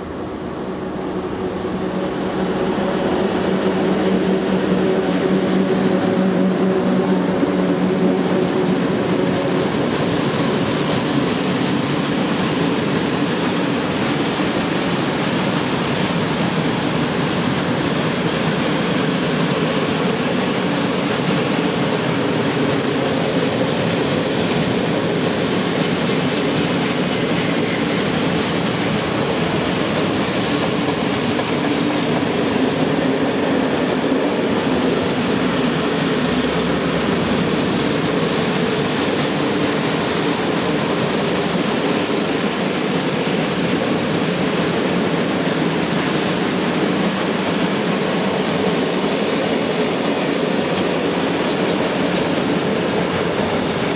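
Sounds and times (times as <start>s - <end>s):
electric locomotive hum: 0.0s - 53.9s
train wheels clattering on rails: 1.4s - 53.9s.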